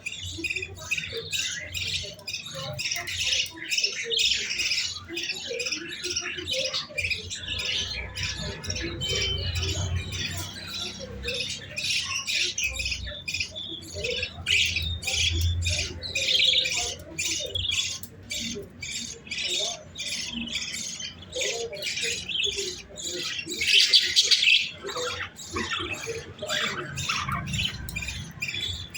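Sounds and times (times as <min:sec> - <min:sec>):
young birds squawking: 0:00.0 - 0:28.9.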